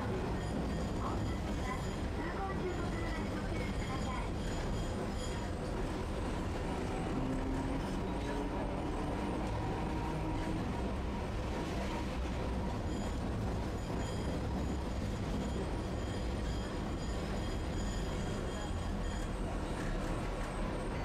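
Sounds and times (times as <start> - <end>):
streetcar wheels rumbling on rails: 0.0 - 21.0.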